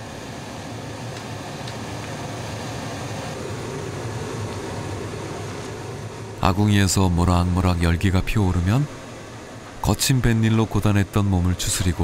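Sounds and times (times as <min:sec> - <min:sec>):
electric blower fan rushing: 0:00.0 - 0:12.0.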